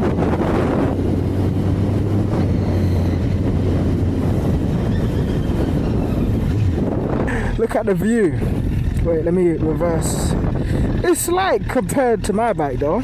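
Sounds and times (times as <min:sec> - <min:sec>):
wind on microphone: 0:00.0 - 0:12.1
motorcycle engine humming: 0:00.0 - 0:13.0.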